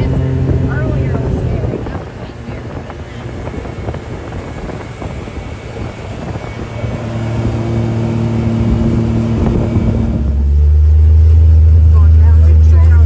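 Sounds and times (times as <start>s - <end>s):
vehicle engine hum: 0.0s - 13.0s
wind rushing over microphone: 0.0s - 13.0s.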